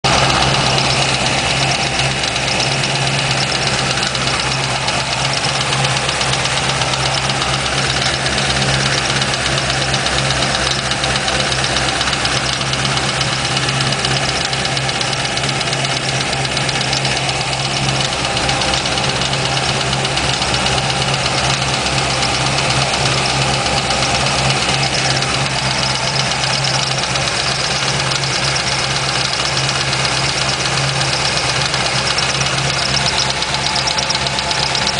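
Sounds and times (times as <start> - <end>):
car engine idling: 0.0 - 34.9
engine ticking: 0.0 - 34.9.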